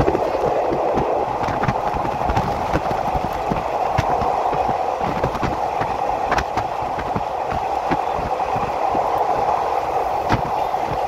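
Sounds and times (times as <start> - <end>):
clicks and knocks of train wheels: 0.0 - 11.0
train running noise: 0.0 - 11.0.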